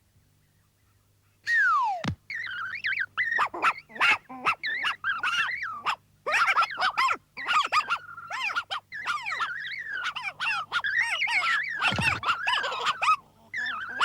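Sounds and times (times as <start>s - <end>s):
squeaky gibberish chatter: 1.5s - 14.0s.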